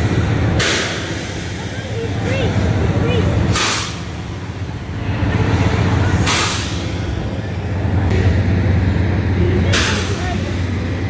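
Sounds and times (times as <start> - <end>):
carnival ride machinery rumble: 0.0 - 11.0.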